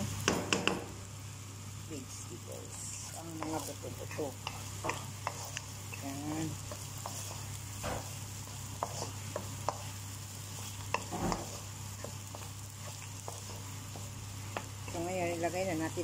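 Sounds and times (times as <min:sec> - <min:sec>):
oil sizzling: 0:00.0 - 0:16.0
wooden spatula scraping wok: 0:02.5 - 0:16.0.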